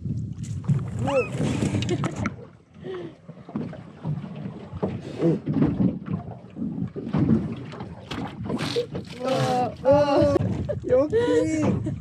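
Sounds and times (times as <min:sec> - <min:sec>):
wind on microphone: 0:00.0 - 0:02.4, 0:04.0 - 0:12.0
water against boat hull: 0:00.0 - 0:12.0.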